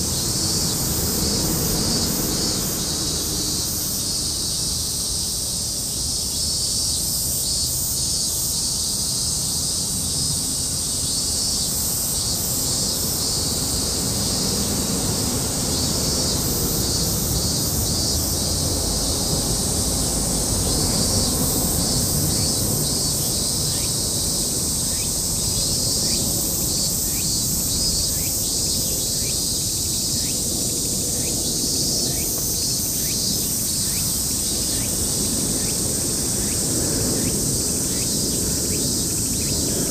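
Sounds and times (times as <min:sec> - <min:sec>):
high-pitched insect trill: 0:00.0 - 0:39.9
repeated insect chirps: 0:00.0 - 0:39.9.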